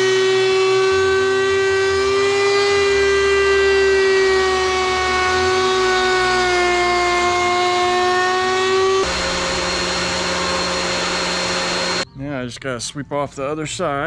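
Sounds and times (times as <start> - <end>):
electric wood planer whining: 0.0 - 12.0.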